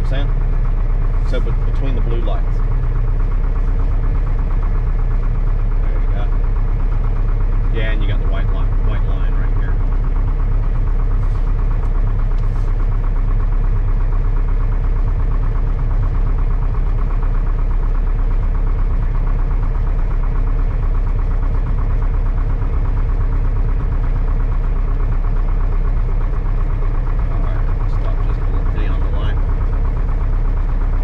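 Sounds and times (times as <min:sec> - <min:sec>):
airplane engine and propeller: 0:00.0 - 0:31.0.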